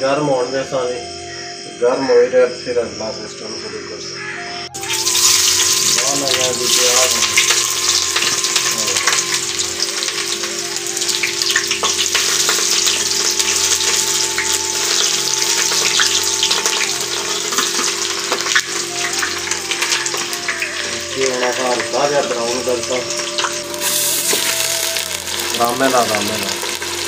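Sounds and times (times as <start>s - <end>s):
onions sizzling in hot oil: 4.8s - 27.0s.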